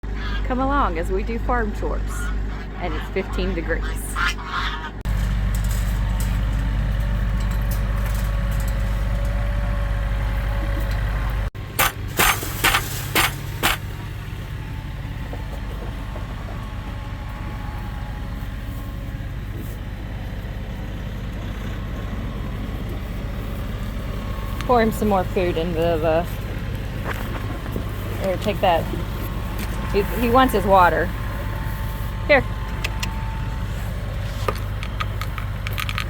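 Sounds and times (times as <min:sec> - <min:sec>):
vehicle engine humming: 0:00.0 - 0:36.0.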